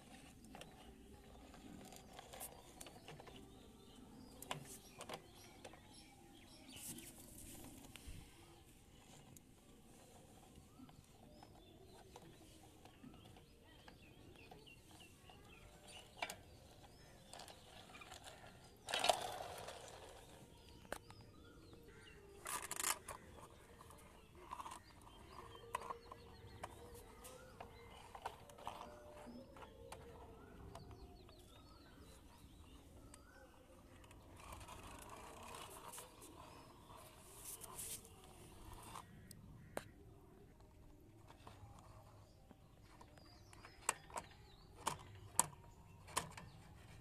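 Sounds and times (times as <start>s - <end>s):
small birds chirping: 0.0s - 47.0s
toy cars clicking: 0.0s - 47.0s.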